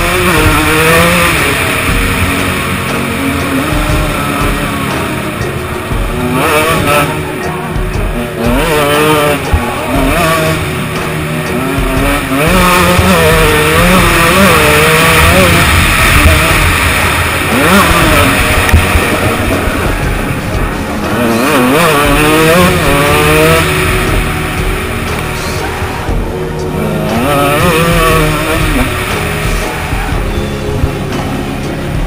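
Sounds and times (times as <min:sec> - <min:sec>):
two-stroke motorcycle revving: 0:00.0 - 0:32.0.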